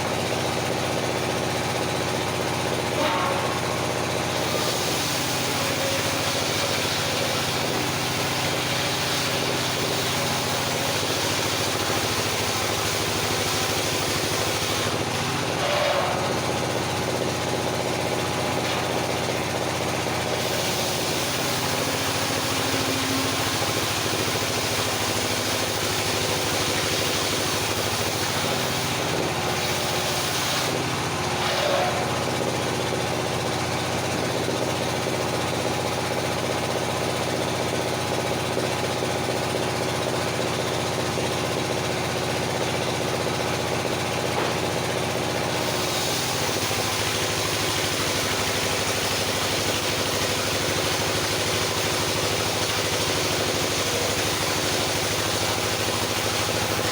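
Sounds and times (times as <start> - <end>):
circular sawmill running: 0.0 - 56.9.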